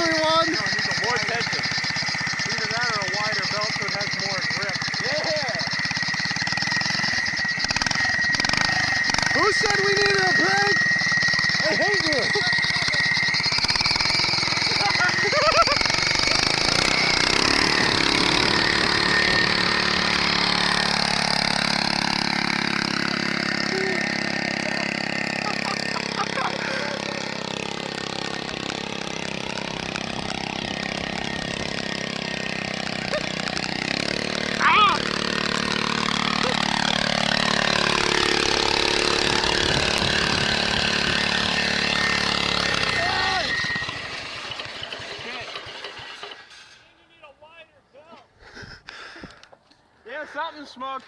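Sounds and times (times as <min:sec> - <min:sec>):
small engine running: 0:00.0 - 0:47.6.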